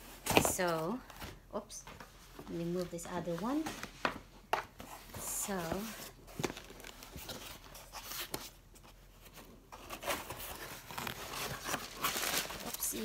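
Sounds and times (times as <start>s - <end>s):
cardboard rustling: 2.0s - 13.0s.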